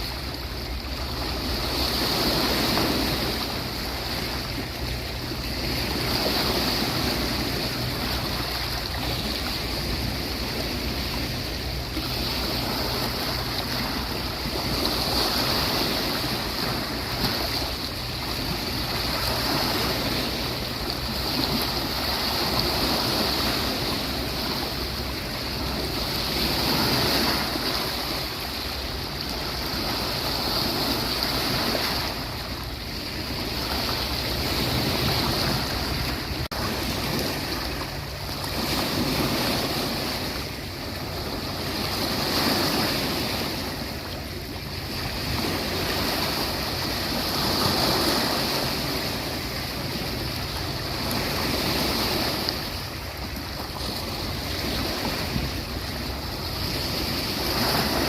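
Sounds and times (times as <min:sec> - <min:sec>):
sea waves washing onto beach: 0:00.0 - 0:58.0.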